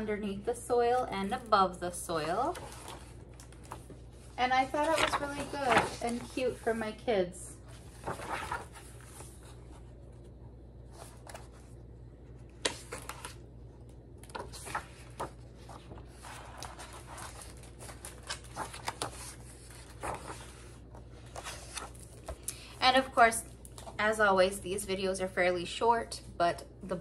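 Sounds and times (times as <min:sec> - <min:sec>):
faint steady hum: 0:00.0 - 0:27.0
book pages turning: 0:00.9 - 0:07.0, 0:07.6 - 0:24.0.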